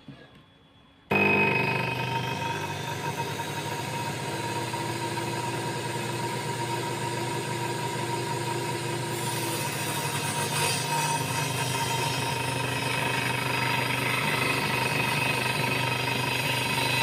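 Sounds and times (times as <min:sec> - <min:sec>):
saw motor whine: 0:00.5 - 0:17.0
saw blade cutting wood: 0:01.1 - 0:17.0.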